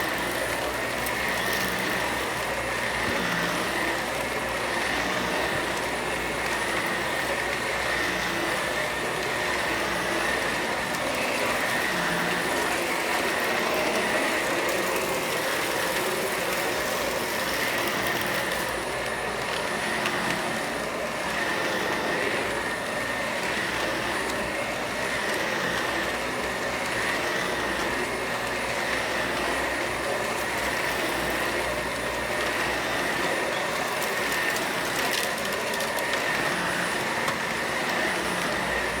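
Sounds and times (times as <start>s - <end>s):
vacuum cleaner running: 0.0s - 39.0s.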